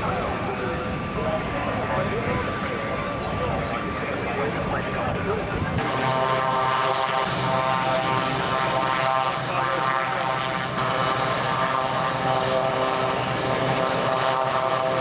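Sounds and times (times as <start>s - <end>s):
propeller aircraft piston engine: 0.0s - 15.0s.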